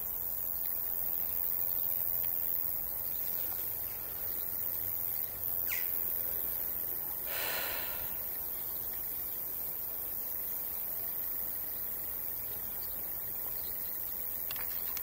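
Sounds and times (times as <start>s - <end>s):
meadow ambience hiss: 0.0s - 15.0s.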